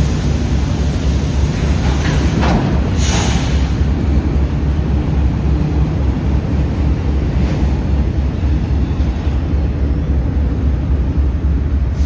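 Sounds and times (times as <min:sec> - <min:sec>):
freight train low rumble: 0:00.0 - 0:12.0.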